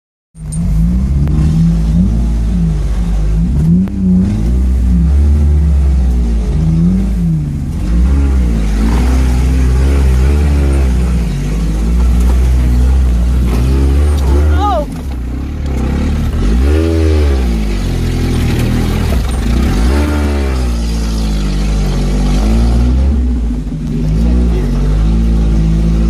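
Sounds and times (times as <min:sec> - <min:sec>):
vehicle engine running under load: 0:00.4 - 0:26.0.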